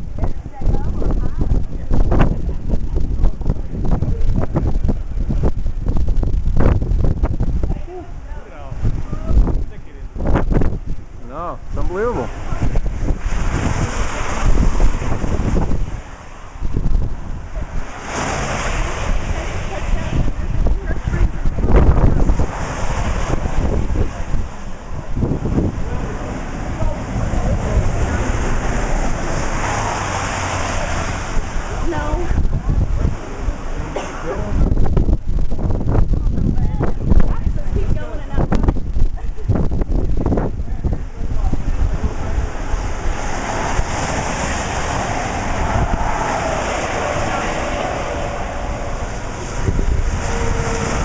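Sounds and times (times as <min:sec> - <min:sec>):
highway traffic: 0:00.0 - 0:51.0
wind buffeting microphone: 0:00.0 - 0:51.0.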